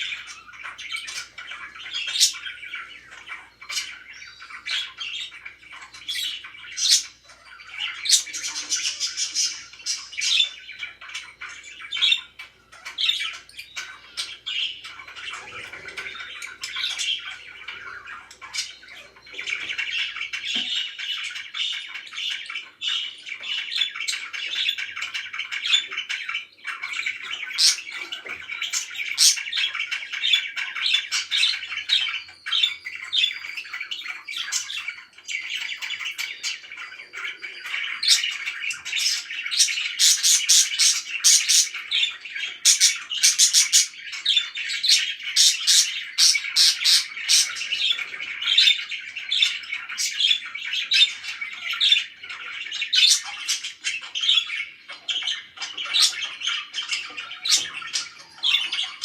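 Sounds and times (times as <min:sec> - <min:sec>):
parakeet squawks: 0:00.0 - 0:59.0
parakeets chattering and chirping: 0:00.0 - 0:59.0.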